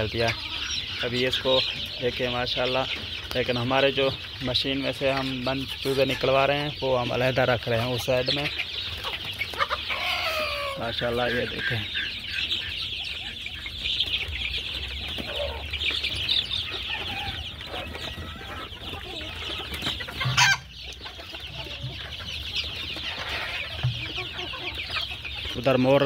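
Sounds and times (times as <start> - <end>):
chicks cheeping: 0.0 - 26.0.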